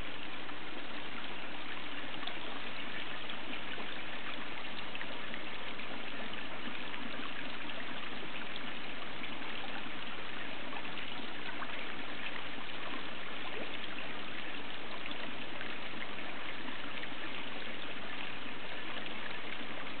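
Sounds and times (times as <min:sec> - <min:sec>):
water trickling into pond: 0:00.0 - 0:20.0.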